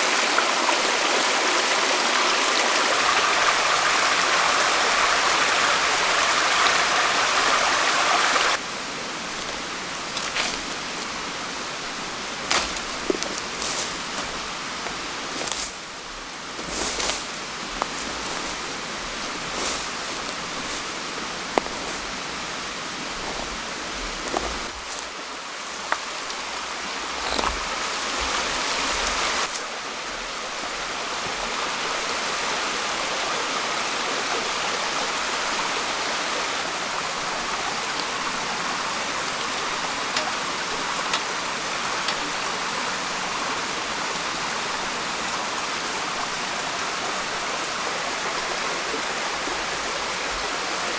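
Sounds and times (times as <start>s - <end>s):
stream rushing: 0.0s - 50.9s.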